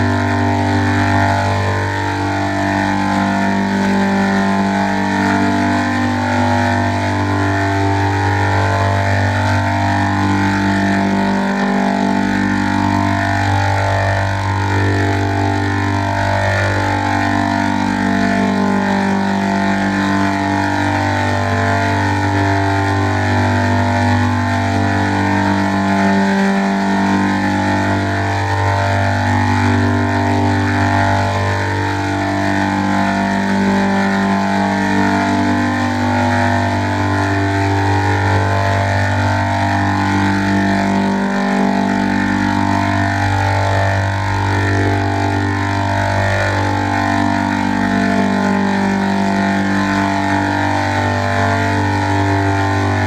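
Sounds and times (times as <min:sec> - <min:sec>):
low drone: 0:00.0 - 0:53.0.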